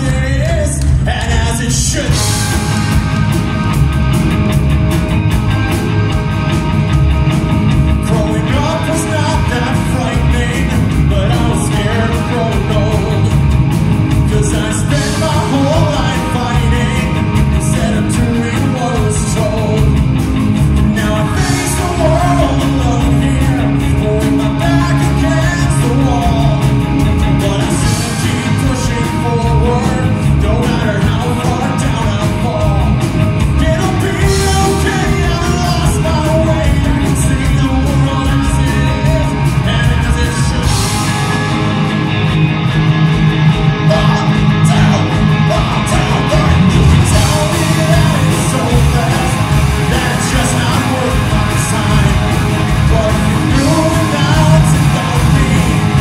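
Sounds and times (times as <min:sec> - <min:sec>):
bass guitar: 0:00.0 - 0:56.0
drum kit: 0:00.0 - 0:56.0
electric guitars: 0:00.0 - 0:56.0
person singing: 0:07.9 - 0:20.1, 0:20.8 - 0:41.9, 0:43.8 - 0:56.0.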